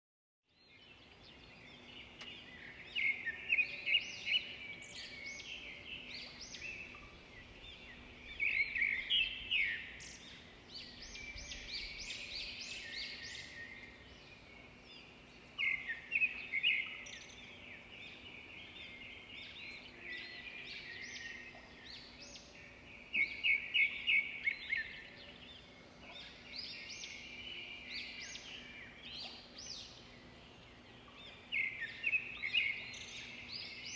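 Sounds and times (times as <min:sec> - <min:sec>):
birds chirping chorus: 0:00.5 - 0:33.9.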